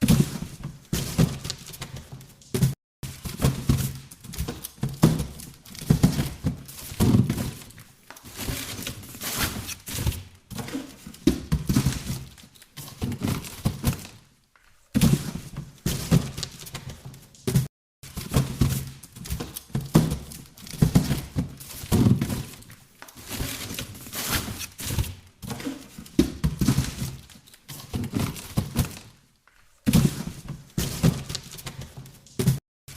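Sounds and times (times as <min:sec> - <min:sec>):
cardboard boxes thunking and scraping: 0:00.0 - 0:14.2, 0:14.9 - 0:29.2, 0:29.8 - 0:32.6.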